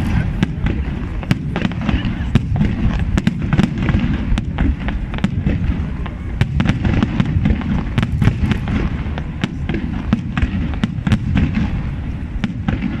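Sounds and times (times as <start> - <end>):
fireworks cracks and bangs: 0.0 - 13.0
low rumble of bursting shells: 0.0 - 13.0.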